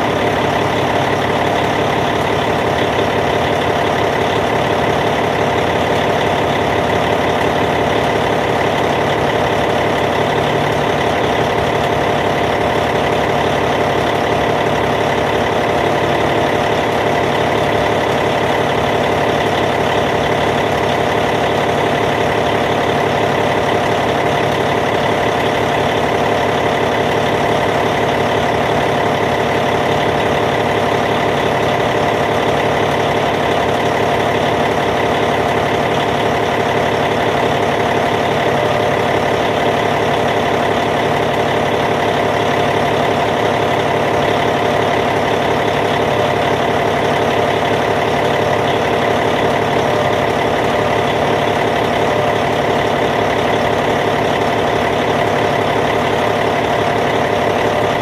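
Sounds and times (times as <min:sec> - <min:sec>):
bulldozer diesel engine idling: 0:00.0 - 0:58.0.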